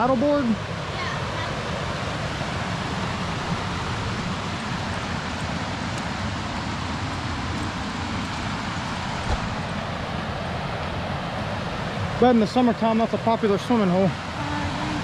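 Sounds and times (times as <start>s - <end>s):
fast-flowing creek rushing: 0.0s - 15.0s.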